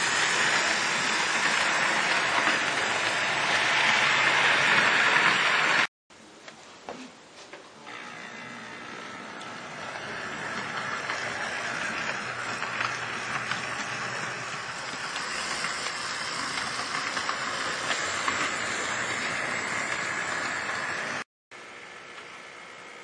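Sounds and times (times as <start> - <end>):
model train motors whirring: 0.0 - 5.9, 7.9 - 23.0.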